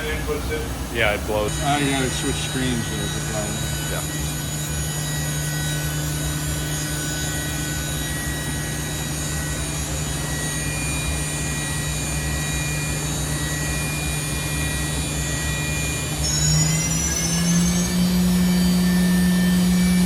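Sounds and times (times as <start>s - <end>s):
high machine whine: 0.0s - 20.0s
machining center low hum: 0.0s - 20.0s.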